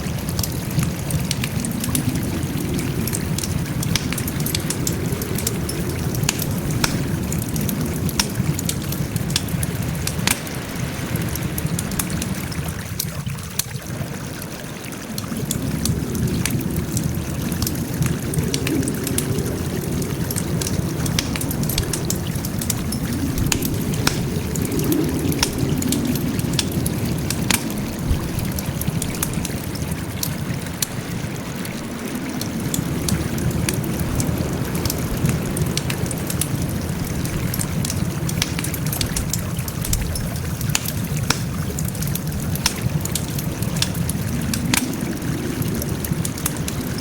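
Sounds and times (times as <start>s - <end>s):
low rumble of burning: 0.0s - 47.0s
wood fire crackling: 0.0s - 47.0s.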